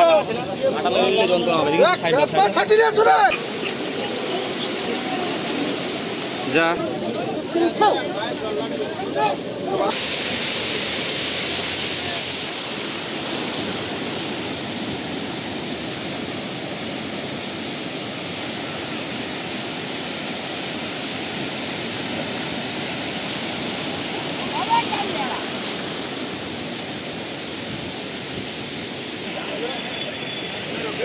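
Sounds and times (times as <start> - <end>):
small waves breaking on beach: 0.0 - 31.0.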